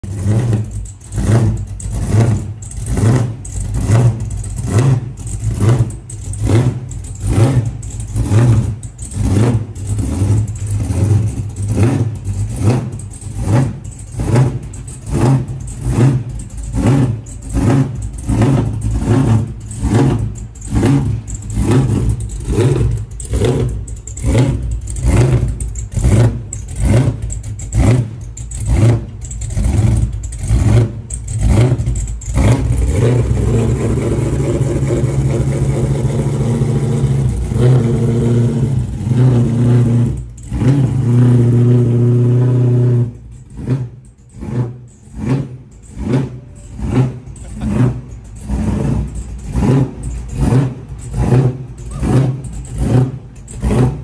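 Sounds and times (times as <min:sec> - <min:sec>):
pickup engine idling with lope: 0:00.0 - 0:54.0.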